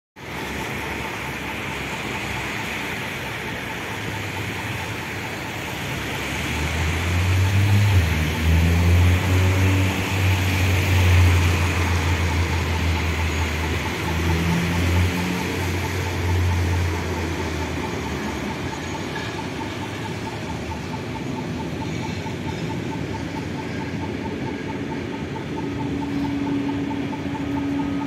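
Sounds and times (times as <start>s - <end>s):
street traffic: 0.2s - 28.0s
train rumbling over viaduct: 0.2s - 28.0s.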